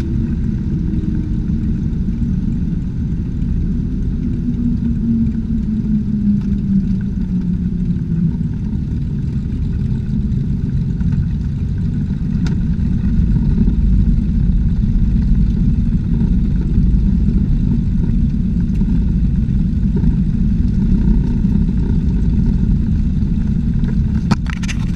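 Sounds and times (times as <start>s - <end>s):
propeller plane engine running: 0.0s - 24.9s
steady low rumble: 0.0s - 24.9s.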